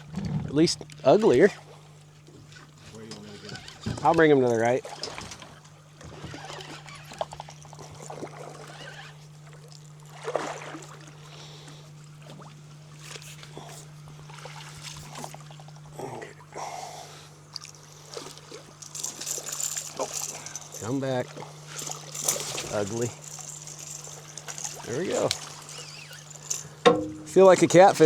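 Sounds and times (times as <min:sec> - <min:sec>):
steady low hum: 0:00.0 - 0:28.0
water sloshing and splashing: 0:00.0 - 0:28.0.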